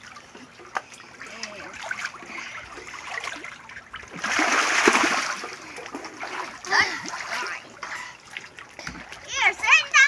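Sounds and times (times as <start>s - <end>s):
child splashing water: 0.0s - 10.0s
water sloshing in a pool: 0.0s - 10.0s.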